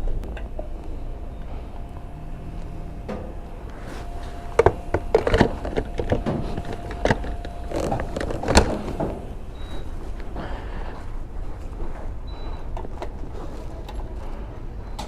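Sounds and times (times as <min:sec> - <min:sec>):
fuel pump humming: 0:00.0 - 0:13.2.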